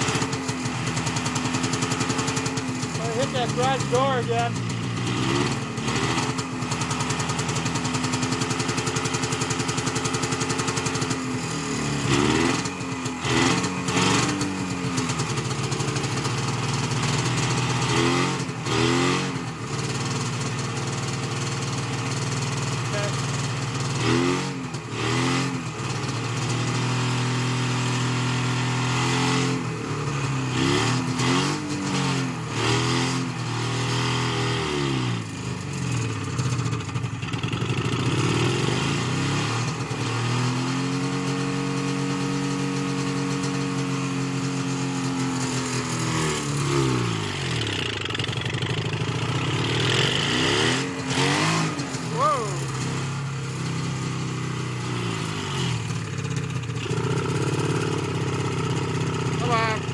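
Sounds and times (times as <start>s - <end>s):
snowmobile engine idling and revving: 0.0s - 59.9s.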